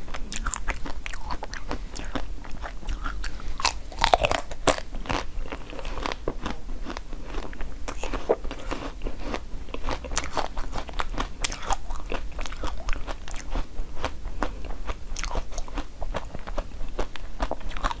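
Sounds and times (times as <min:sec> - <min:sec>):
chewing frozen treats: 0:00.0 - 0:18.0.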